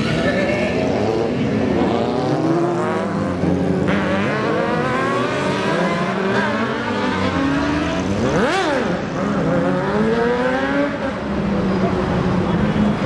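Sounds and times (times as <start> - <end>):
motorcycle engine revving: 0.0 - 11.2
motorcycle engines accelerating: 0.0 - 13.0
street traffic: 0.0 - 13.0.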